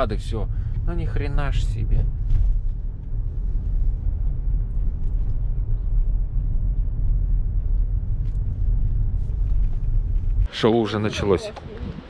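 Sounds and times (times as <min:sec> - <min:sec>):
car interior road noise: 0:00.0 - 0:12.0.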